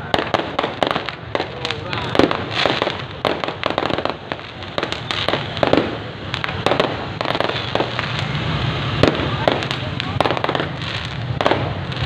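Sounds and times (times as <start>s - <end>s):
fireworks banging and crackling: 0.0s - 12.0s.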